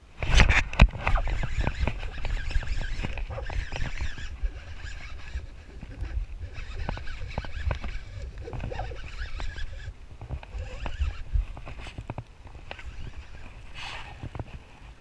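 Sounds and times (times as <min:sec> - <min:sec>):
fishing reel clicking: 0:00.4 - 0:14.4.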